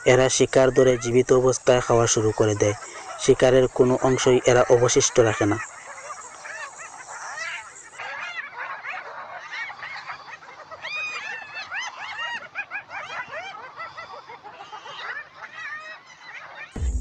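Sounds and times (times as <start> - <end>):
hyenas giggling and squealing: 0.0 - 16.8.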